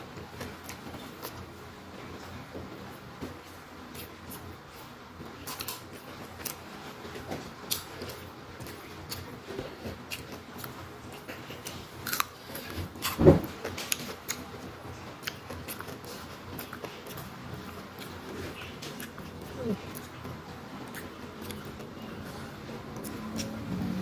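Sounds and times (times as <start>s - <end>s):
chewing and mouth clicks: 3.9s - 23.6s.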